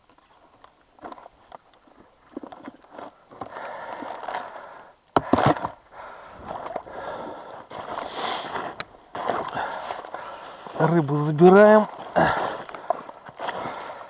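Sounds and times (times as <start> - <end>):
gear rustling and scraping: 0.0 - 14.0.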